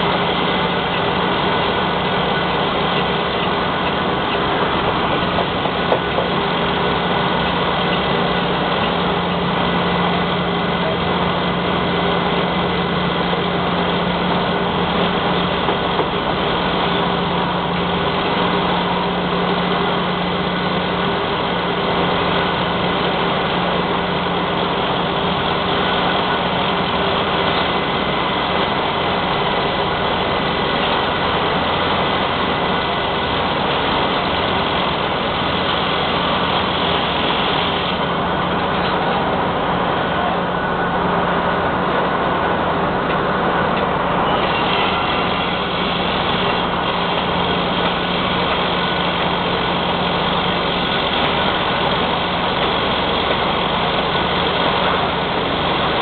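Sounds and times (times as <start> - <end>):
crane diesel engine running: 0.0 - 56.0.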